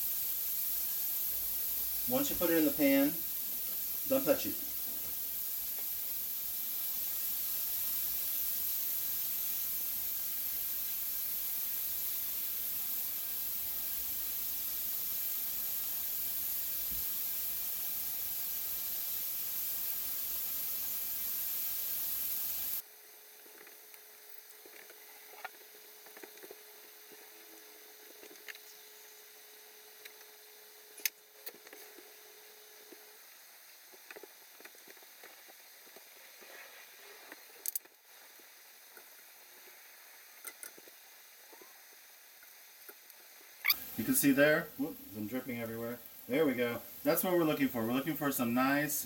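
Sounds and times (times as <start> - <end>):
meat sizzling in a pan: 0.0 - 22.9, 32.0 - 49.0.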